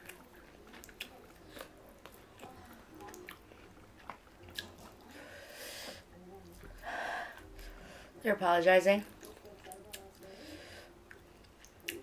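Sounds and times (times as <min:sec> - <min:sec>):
faint chewing of food: 0:00.0 - 0:08.1, 0:09.0 - 0:12.0.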